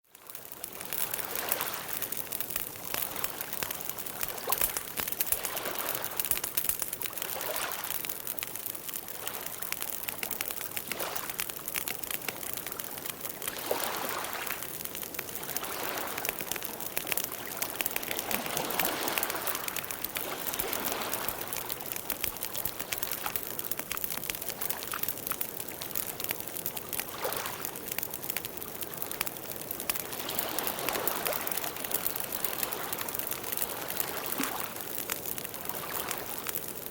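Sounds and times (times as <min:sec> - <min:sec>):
wood crackling and popping: 0:00.0 - 0:36.9.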